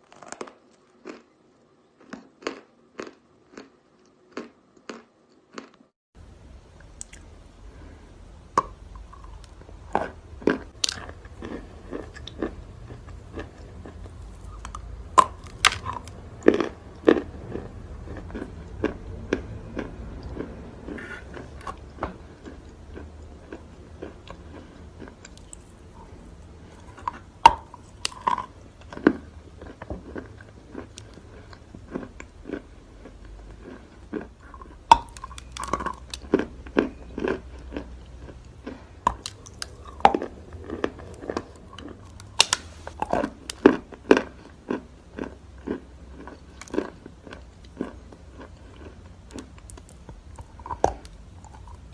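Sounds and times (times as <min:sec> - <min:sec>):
crunching and chewing chalk: 0:00.0 - 0:05.9, 0:06.9 - 0:51.9.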